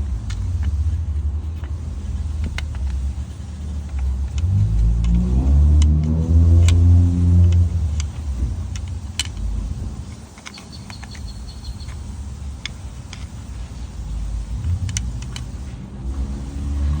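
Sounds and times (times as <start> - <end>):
engine idling rumble: 0.0 - 17.0
engine ticking: 0.0 - 17.0.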